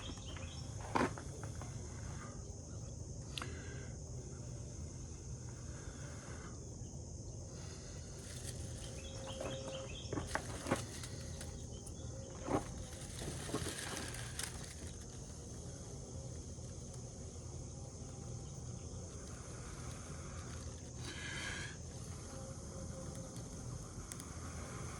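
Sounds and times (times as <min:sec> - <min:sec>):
insects droning: 0:00.0 - 0:24.9
low background rumble: 0:00.0 - 0:24.9.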